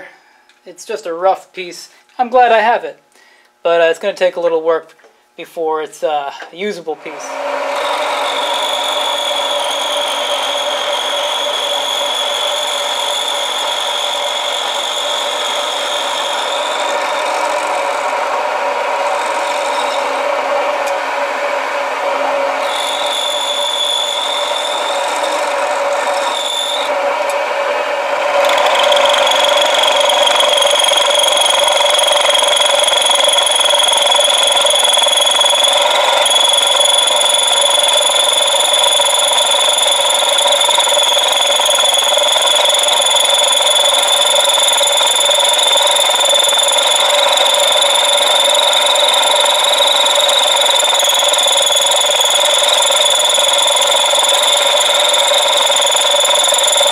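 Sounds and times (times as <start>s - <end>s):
milling cutter whine: 7.0s - 56.9s.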